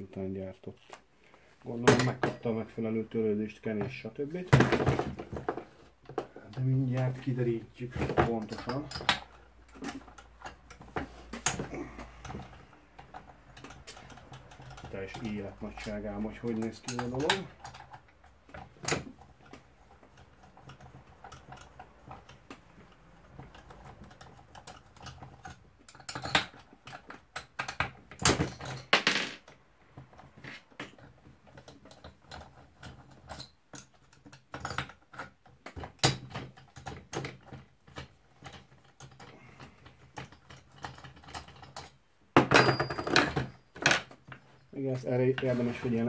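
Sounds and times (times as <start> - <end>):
hand tools clicking and tapping metal: 3.6 - 45.9.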